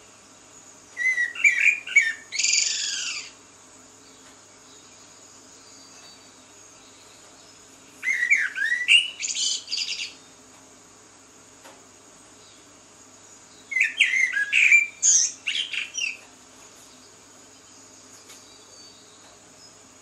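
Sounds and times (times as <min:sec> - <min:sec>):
songbird singing: 0:00.0 - 0:10.6, 0:12.2 - 0:20.0.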